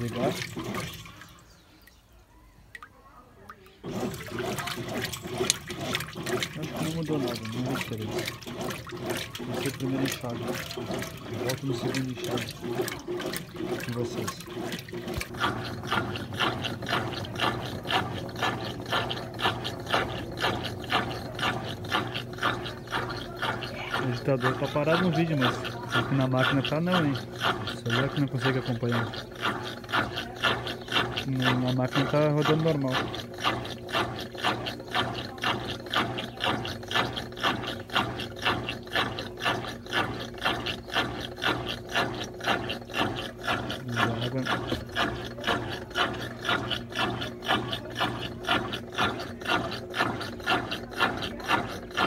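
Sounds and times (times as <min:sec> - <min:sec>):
agitator clacking: 0:00.0 - 0:52.0
washing machine motor hum: 0:00.0 - 0:52.0.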